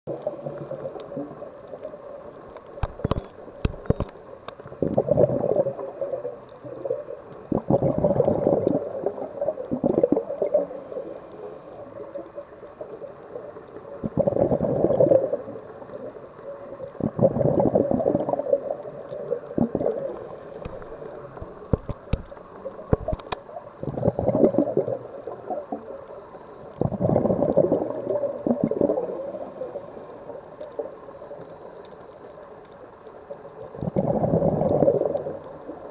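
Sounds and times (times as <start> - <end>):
underwater exhaled bubbles gurgling: 0.1 - 35.9.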